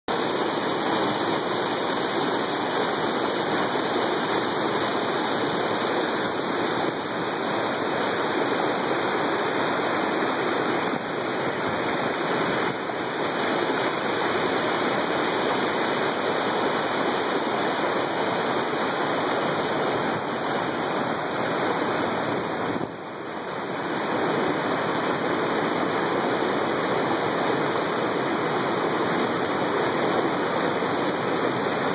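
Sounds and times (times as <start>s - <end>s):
river water rushing over rocks: 0.1s - 31.9s.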